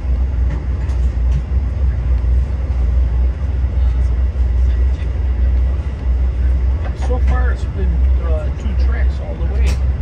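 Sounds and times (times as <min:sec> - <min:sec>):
train car rumbling: 0:00.0 - 0:10.0.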